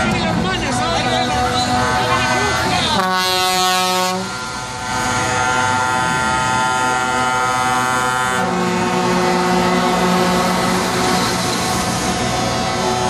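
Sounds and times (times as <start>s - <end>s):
truck driving past: 0.0s - 13.0s
truck air horns chord: 0.7s - 13.0s.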